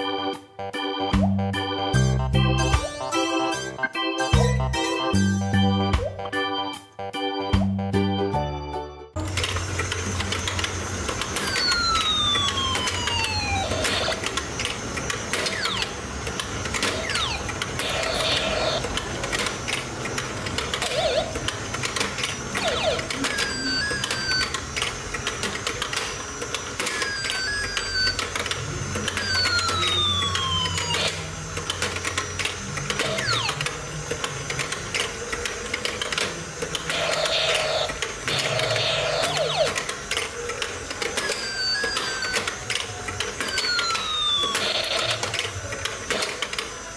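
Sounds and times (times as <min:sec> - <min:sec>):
toy electronic sound effects: 0:00.0 - 0:07.8, 0:11.3 - 0:46.9.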